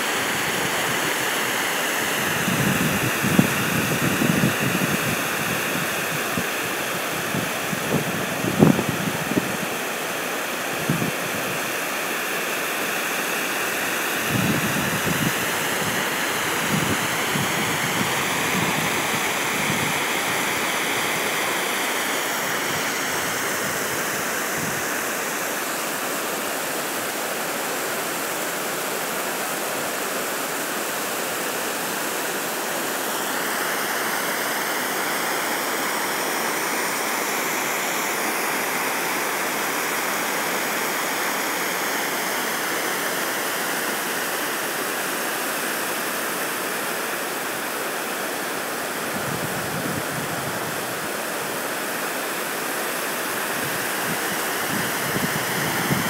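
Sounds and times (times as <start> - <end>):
water rushing over spillway: 0.0 - 56.0.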